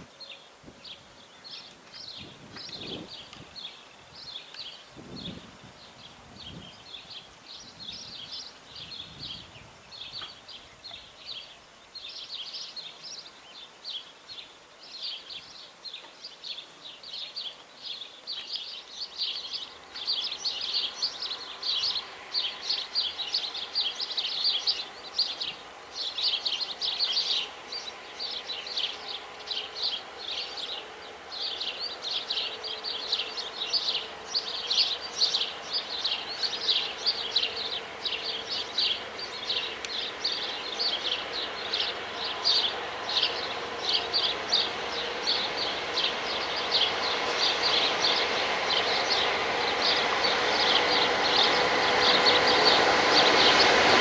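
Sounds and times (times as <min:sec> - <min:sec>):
distant train hum: 0:00.0 - 0:54.0
small birds chirping: 0:00.0 - 0:54.0.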